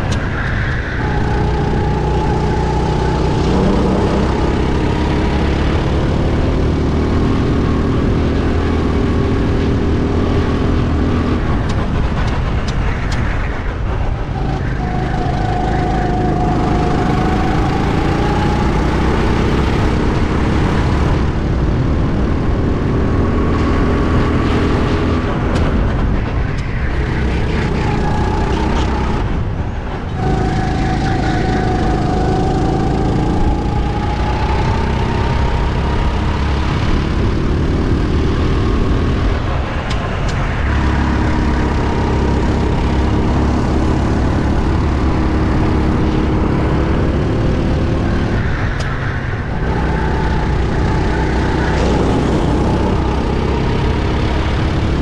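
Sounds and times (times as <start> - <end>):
go-kart engine racing: 0.0 - 55.0.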